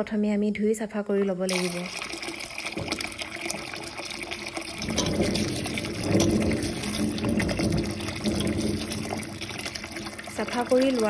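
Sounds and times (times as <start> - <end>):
tap water pouring into steel bowl: 1.5 - 11.0.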